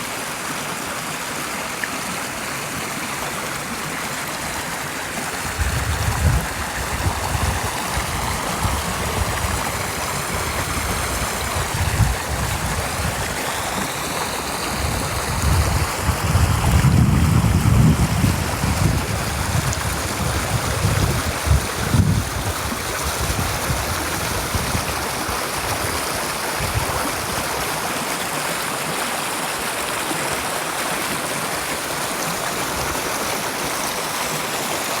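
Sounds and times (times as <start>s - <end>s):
stream water flowing: 0.0s - 35.0s.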